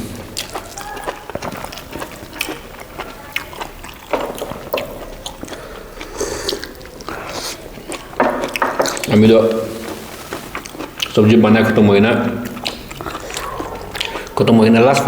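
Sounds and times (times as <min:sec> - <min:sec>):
wet chewing and mouth sounds: 0:00.0 - 0:15.0.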